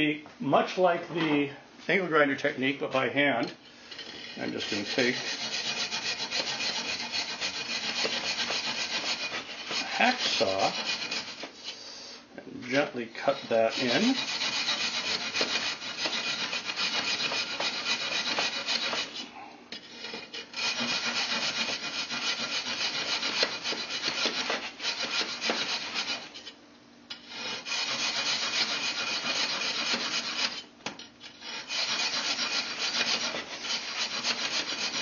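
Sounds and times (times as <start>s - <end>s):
hacksaw cutting firebrick: 3.4s - 11.6s, 12.7s - 35.0s.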